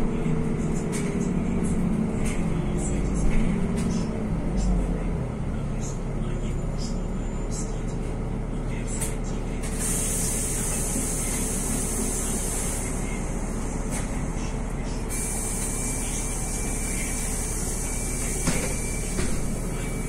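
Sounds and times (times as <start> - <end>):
bus engine idling: 0.0 - 20.0.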